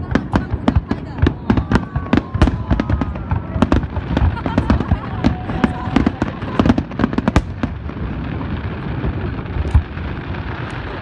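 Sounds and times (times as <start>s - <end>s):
fireworks bangs and pops: 0.0s - 11.0s
fireworks crackling rumble: 0.0s - 11.0s.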